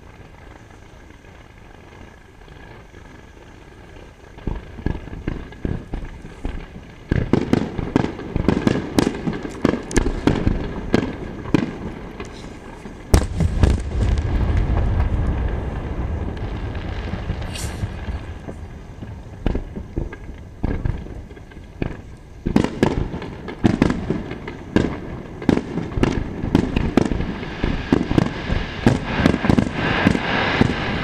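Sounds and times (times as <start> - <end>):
firework bangs: 0.0 - 31.0
low rumble with crackling: 0.0 - 31.0.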